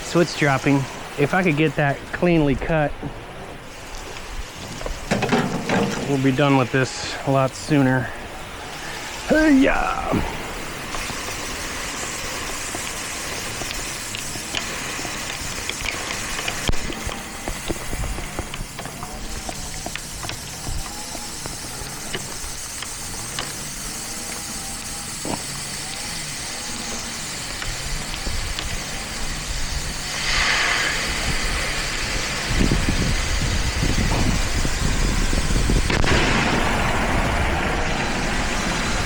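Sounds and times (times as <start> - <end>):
water spraying from a pipe: 0.0 - 39.0.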